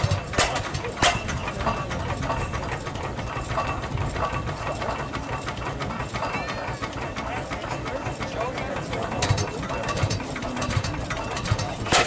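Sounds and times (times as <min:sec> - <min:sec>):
stationary gas engine firing: 0:00.0 - 0:12.0.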